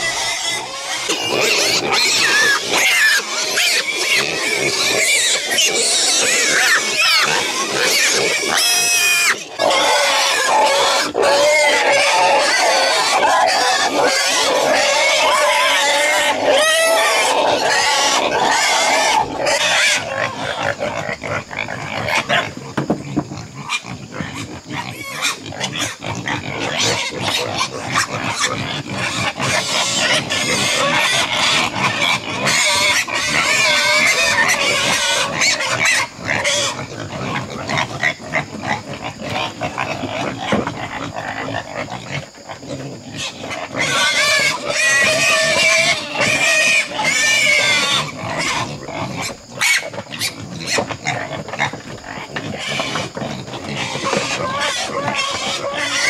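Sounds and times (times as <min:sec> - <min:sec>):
pigs squealing: 0:00.0 - 0:56.0.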